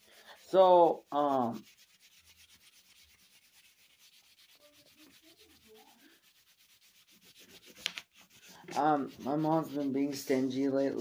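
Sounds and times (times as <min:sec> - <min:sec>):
coloring on paper: 0:00.0 - 0:11.0.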